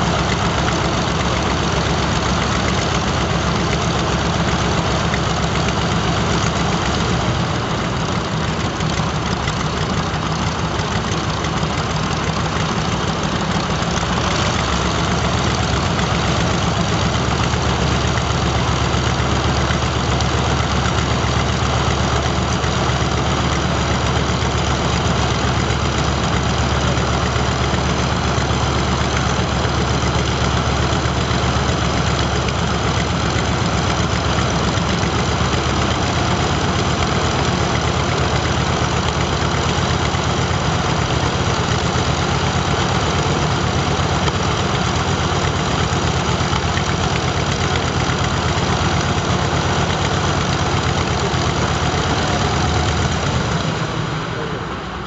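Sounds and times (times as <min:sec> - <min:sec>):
propeller plane engine idling: 0:00.0 - 0:55.0.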